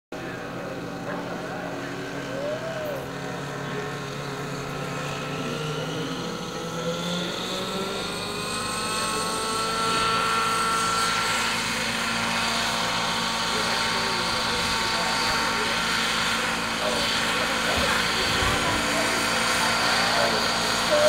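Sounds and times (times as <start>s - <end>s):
model helicopter engine spooling up: 0.4s - 21.0s.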